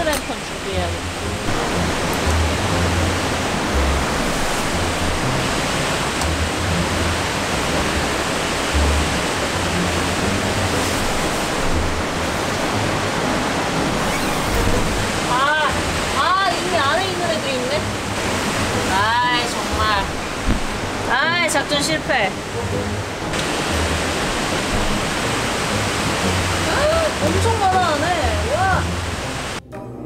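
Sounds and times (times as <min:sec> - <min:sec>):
stream and waterfall rushing: 0:00.0 - 0:29.6.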